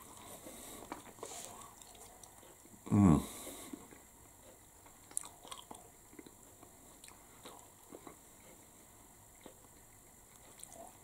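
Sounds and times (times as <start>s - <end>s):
chewing pastry: 0.0s - 11.0s.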